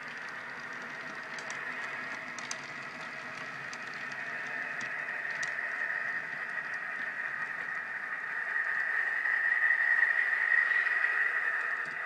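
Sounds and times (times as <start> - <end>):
model freight cars rolling whir: 0.0 - 12.0.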